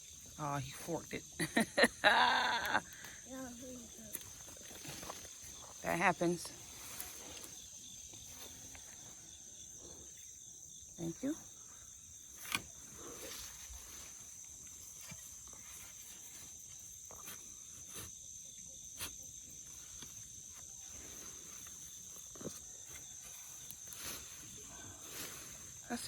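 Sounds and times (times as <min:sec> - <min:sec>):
insects shrilling: 0:00.0 - 0:26.0.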